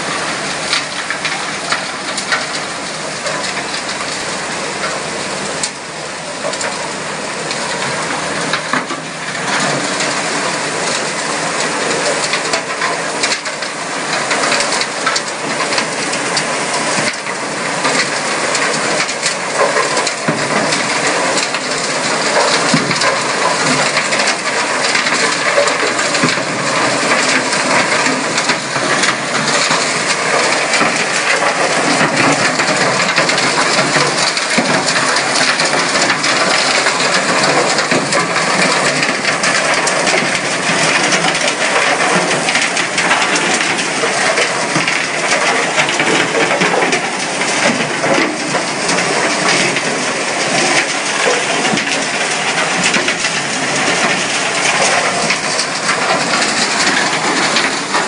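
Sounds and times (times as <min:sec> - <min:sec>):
stones rattling against metal: 0:08.5 - 0:58.0.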